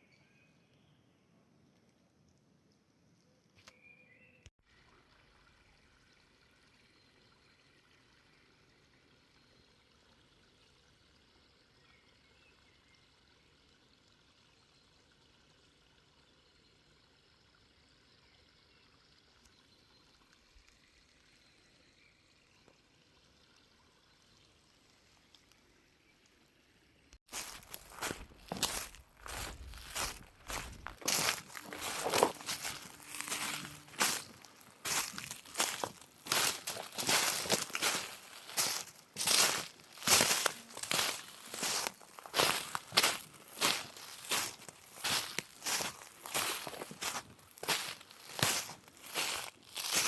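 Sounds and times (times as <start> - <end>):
running water of small stream: 4.6 - 50.0.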